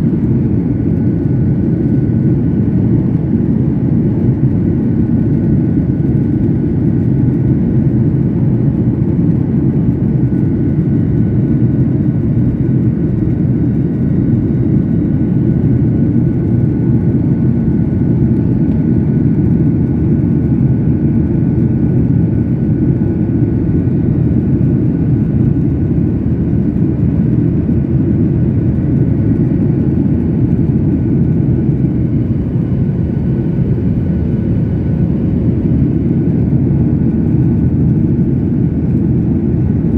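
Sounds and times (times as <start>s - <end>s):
high steady whines: 0.0s - 39.9s
jet engine and airflow rumble: 0.0s - 39.9s.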